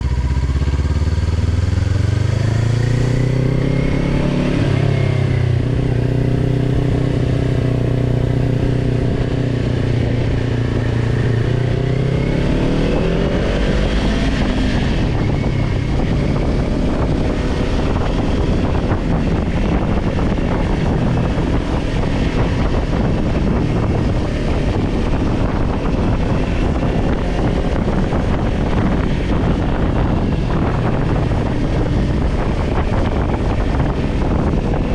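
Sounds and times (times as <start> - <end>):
motorcycle engine pulling away: 0.0 - 34.9
wind noise on microphone: 0.0 - 34.9.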